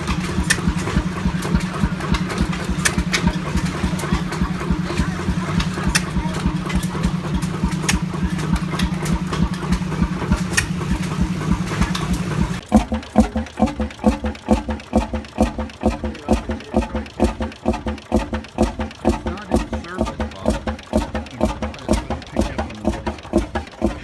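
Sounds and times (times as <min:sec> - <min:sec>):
old engine running: 0:00.0 - 0:24.0.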